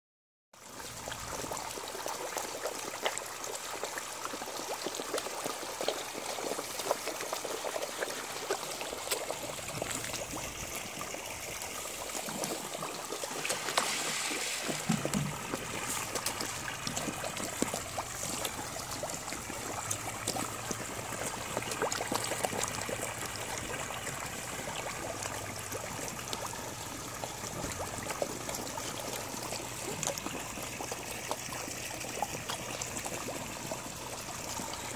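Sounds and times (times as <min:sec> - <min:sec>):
water trickling and splashing: 0:00.6 - 0:34.9
fish splashing and gulping: 0:00.7 - 0:34.9.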